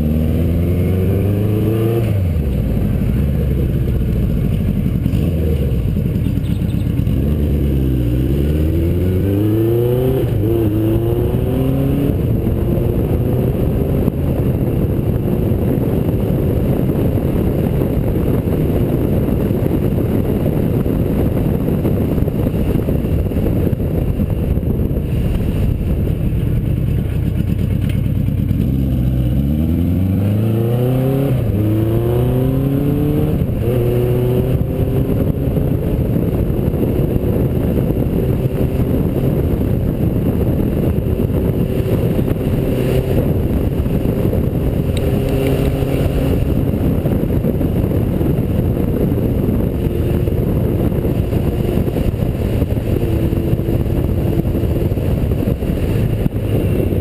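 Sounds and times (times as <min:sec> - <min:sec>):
motorcycle engine accelerating: 0:00.0 - 0:57.0
wind noise on microphone: 0:00.0 - 0:57.0.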